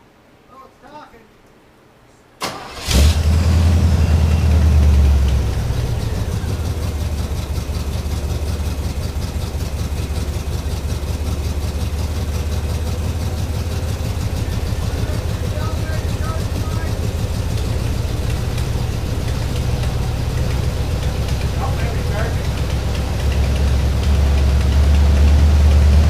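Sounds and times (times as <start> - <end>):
truck engine idling: 2.5 - 26.0.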